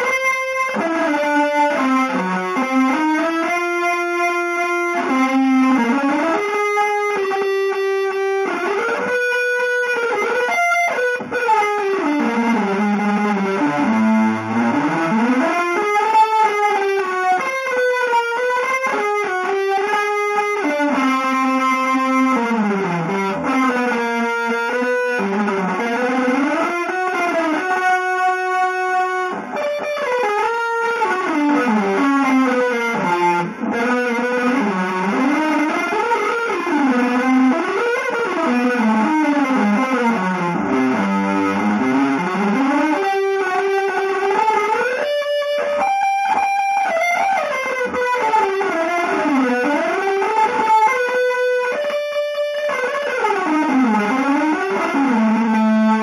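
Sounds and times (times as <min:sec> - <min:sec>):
electric guitar sliding notes: 0:00.0 - 0:56.0.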